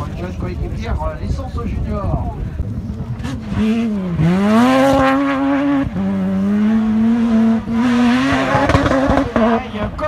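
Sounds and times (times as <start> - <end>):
rally car engine at full throttle: 0.0 - 10.0.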